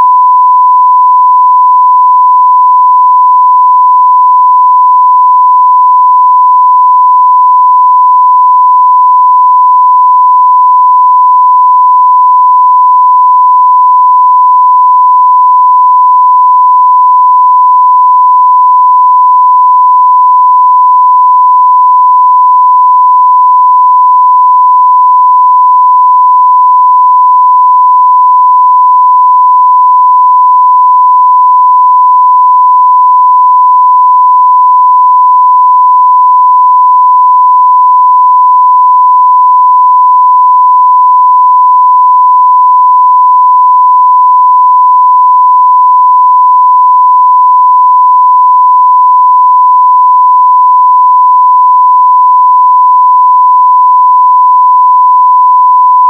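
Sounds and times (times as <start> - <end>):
sine-wave test tone: 0.0 - 56.0.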